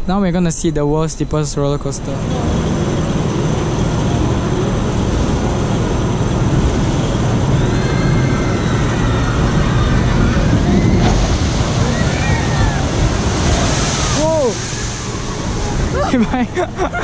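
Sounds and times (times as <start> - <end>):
roller coaster rumble: 0.0 - 17.0.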